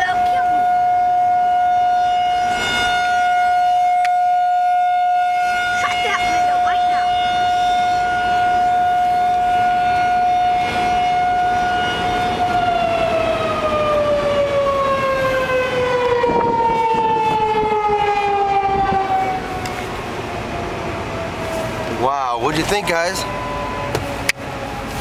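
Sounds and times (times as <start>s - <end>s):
emergency siren wailing: 0.0s - 25.0s.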